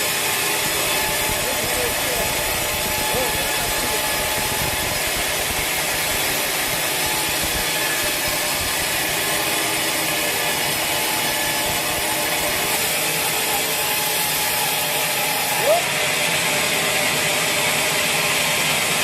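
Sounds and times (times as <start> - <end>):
sawmill saw cutting log: 0.0 - 19.0.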